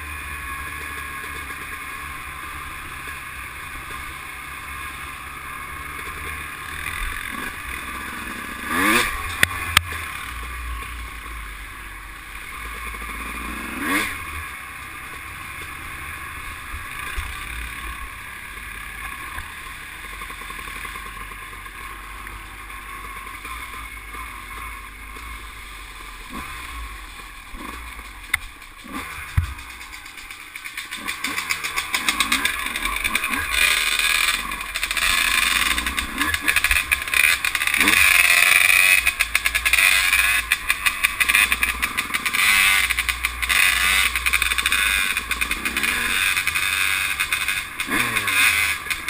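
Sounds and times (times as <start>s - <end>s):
atv engine running: 0.0s - 49.0s.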